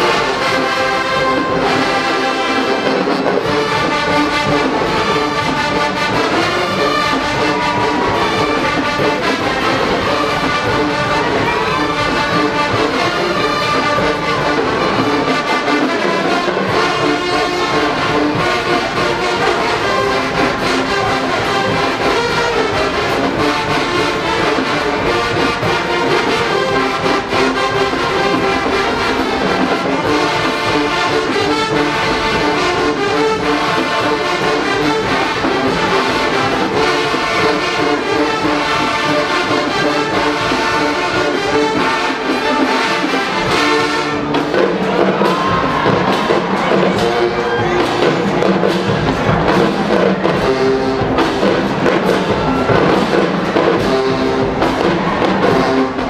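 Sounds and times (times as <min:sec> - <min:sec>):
brass section sustained chords: 0:00.0 - 0:56.0
drumline percussion: 0:00.0 - 0:56.0.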